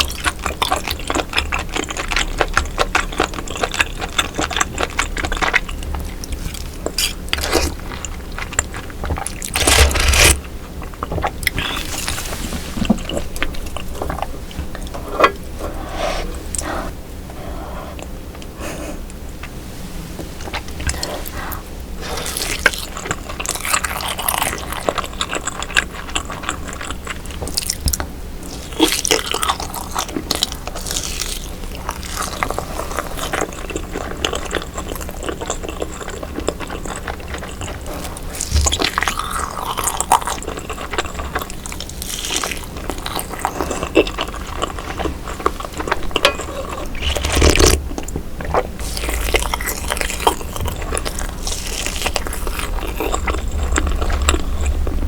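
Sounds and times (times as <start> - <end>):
chewing crunches: 0.0 - 15.0, 20.5 - 55.0.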